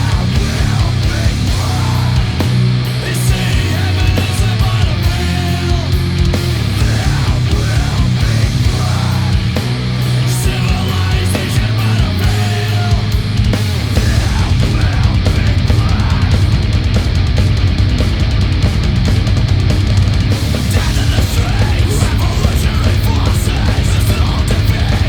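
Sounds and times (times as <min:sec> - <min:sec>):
distorted electric guitars: 0:00.0 - 0:25.0
drums pounding: 0:00.0 - 0:25.0.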